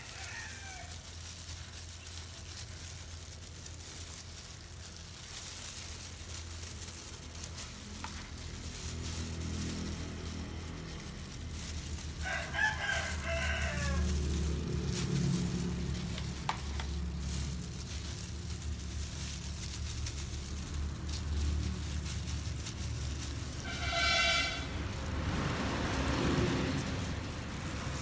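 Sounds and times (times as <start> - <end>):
wet brushing and dabbing: 0.0 - 28.0.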